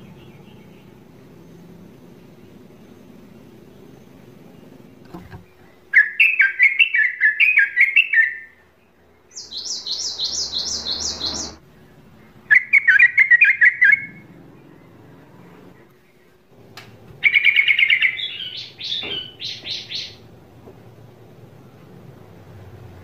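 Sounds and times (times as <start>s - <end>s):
bird singing: 0.0s - 20.4s.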